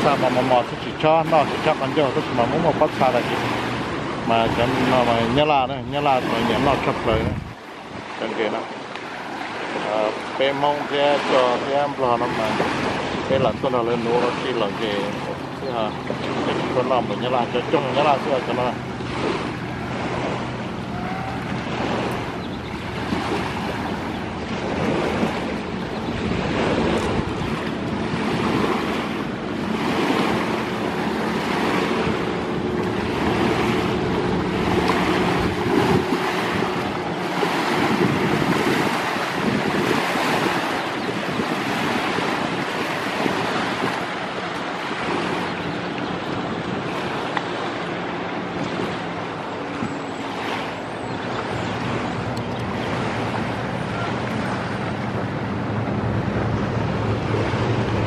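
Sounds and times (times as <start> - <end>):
river water rushing and lapping: 0.0 - 58.0
wind buffeting microphone: 0.0 - 58.0.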